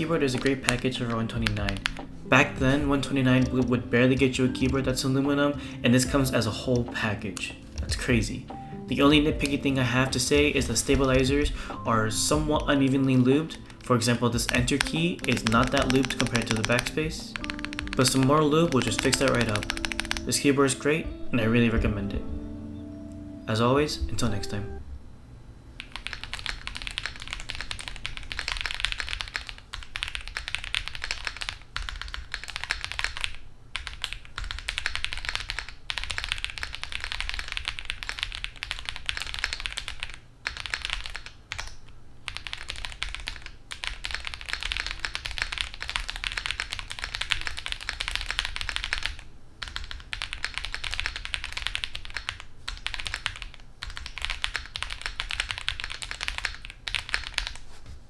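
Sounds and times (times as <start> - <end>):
mechanical keyboard typing: 0.0 - 5.1, 9.4 - 11.6, 12.2 - 20.6, 25.8 - 57.6.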